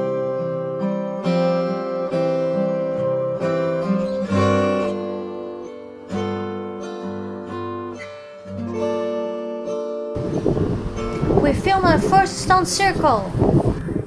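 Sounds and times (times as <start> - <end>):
acoustic guitar strumming chords: 0.0 - 13.7.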